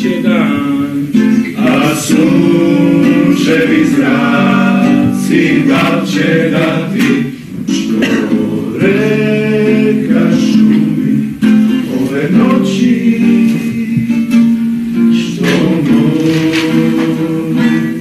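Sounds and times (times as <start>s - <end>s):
acoustic guitar: 0.0s - 18.0s
voices holding long sung notes: 0.0s - 18.0s.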